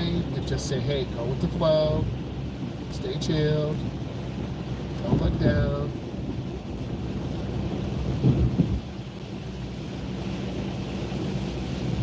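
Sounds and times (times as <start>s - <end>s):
tyre noise on wet road: 0.0s - 12.0s.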